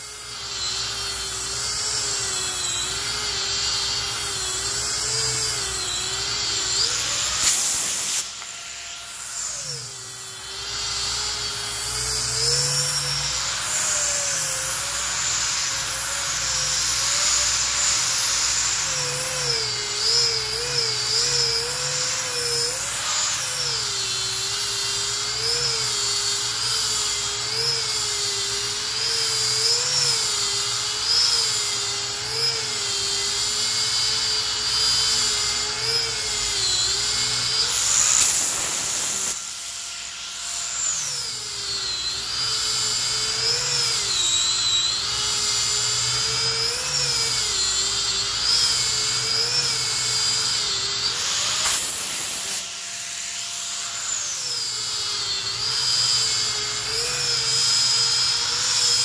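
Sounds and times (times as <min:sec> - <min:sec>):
power sander whining on wood: 0:00.0 - 0:59.0.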